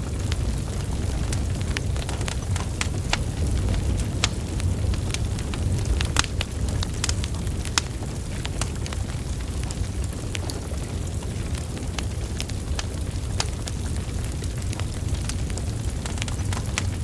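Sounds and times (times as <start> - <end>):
logs crackling and popping: 0.0 - 17.0
rumble of flames: 0.0 - 17.0.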